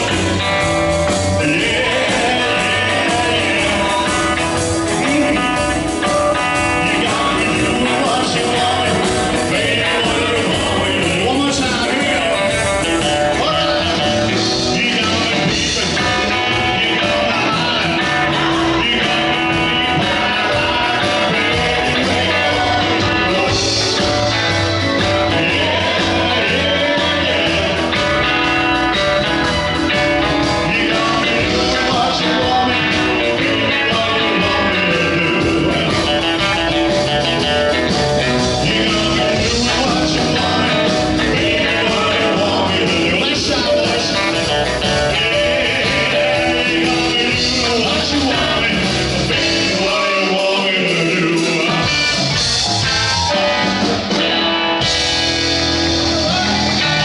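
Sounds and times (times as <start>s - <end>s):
drums: 0.0s - 57.0s
electric guitars: 0.0s - 57.0s
keyboard: 0.0s - 57.0s
man singing into microphone: 1.3s - 28.9s, 30.3s - 52.1s.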